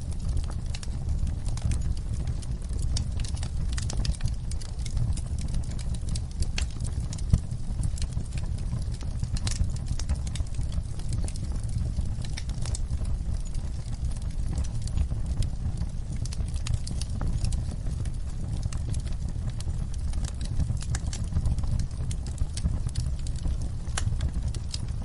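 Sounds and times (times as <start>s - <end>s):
low rumble of burning: 0.0s - 25.0s
wood fire crackling and popping: 0.0s - 25.0s.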